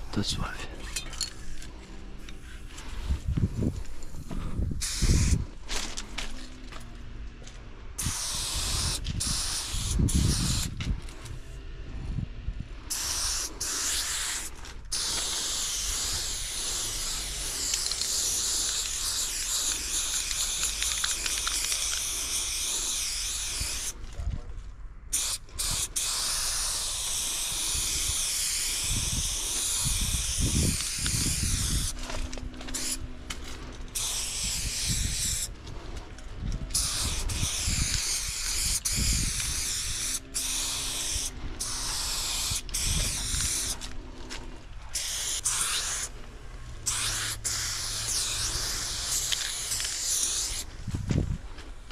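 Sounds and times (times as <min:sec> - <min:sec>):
spray paint can hissing: 0:01.2 - 0:05.6, 0:08.0 - 0:11.2, 0:12.9 - 0:24.0, 0:25.1 - 0:35.9, 0:36.6 - 0:43.9, 0:44.9 - 0:50.9.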